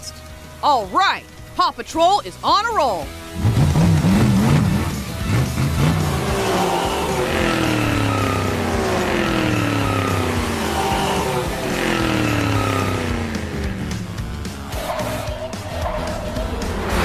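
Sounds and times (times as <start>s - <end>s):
low engine hum: 3.1s - 17.0s
cartoon engines racing by: 3.4s - 17.0s.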